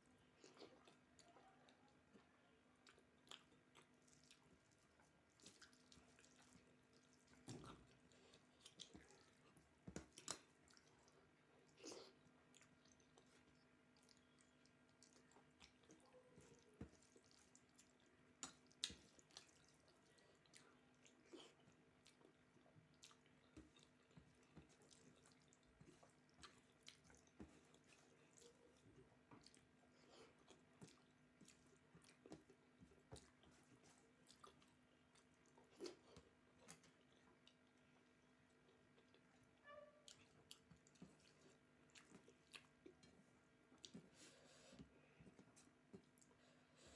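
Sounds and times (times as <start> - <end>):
wet chewing sounds: 0.2 - 46.9.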